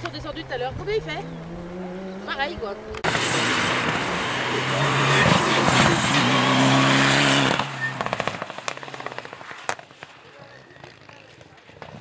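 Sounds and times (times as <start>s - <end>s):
rally car engine passing: 0.0s - 9.8s
exhaust crackles: 0.0s - 11.8s.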